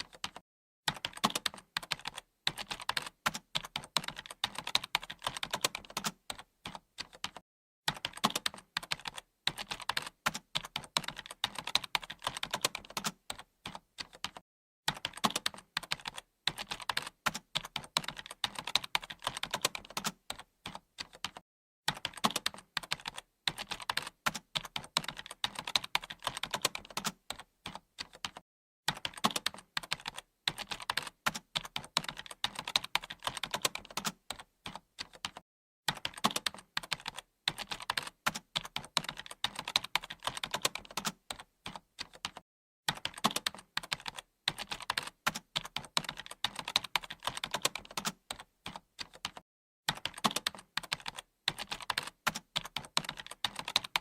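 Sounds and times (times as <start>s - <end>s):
fast typing on keyboard: 0.0s - 54.0s.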